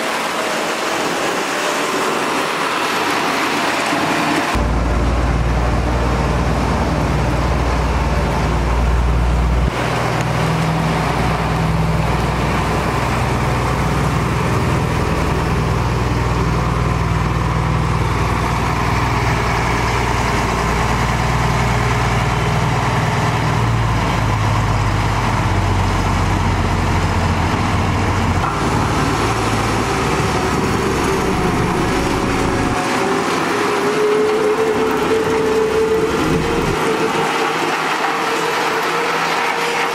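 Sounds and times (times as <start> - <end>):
heavy diesel machinery droning: 0.0 - 39.9.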